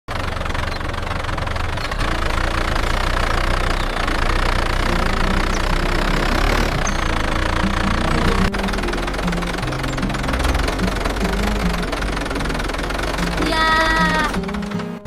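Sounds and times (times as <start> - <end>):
tractor engine rumbling: 0.1 - 15.0.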